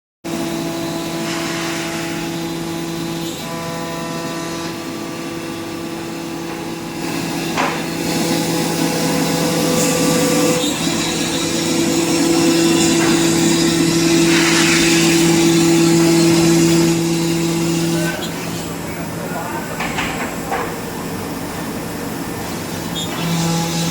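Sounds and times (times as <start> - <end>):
machine cutting noise: 0.3 - 19.2, 20.4 - 23.9
cnc machine motor hum: 0.3 - 23.9.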